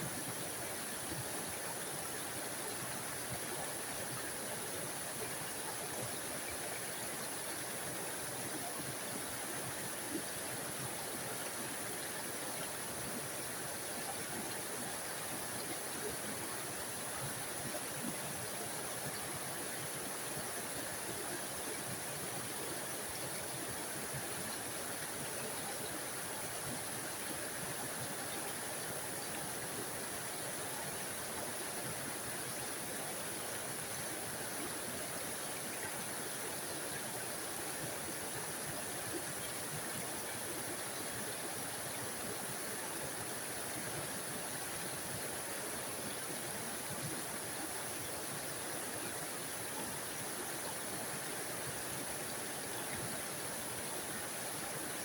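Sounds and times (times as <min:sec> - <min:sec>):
small waterfall rushing: 0:00.0 - 0:55.0.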